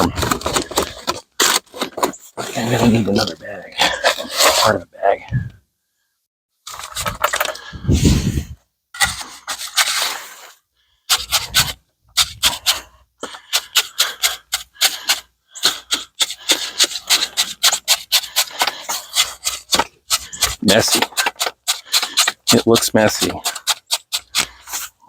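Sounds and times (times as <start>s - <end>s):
hand tool scraping wet concrete: 0.0s - 4.8s, 9.0s - 25.0s.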